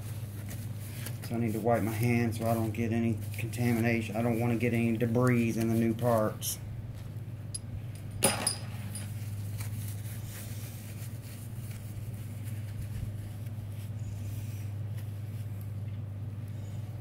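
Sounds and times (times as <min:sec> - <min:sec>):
paper towel rustling: 0:00.0 - 0:07.1, 0:09.1 - 0:16.8
steady low hum: 0:00.0 - 0:17.0.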